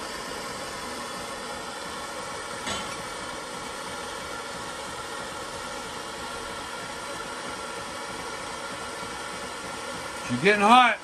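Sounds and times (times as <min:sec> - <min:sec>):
model heat engine running: 0:00.0 - 0:11.0
propane torch hissing: 0:00.0 - 0:11.0.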